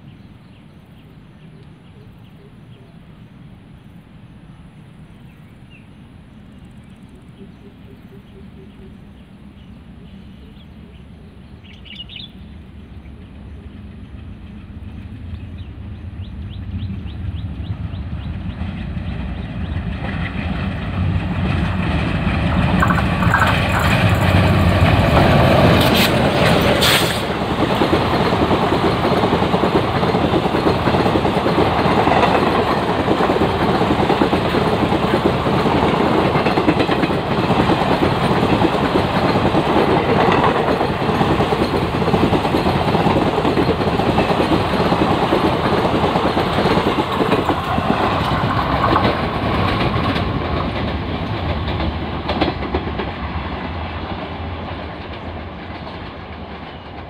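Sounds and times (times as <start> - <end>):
coaches rumbling on rails: 0.0 - 57.0
diesel locomotive passing: 0.0 - 57.0.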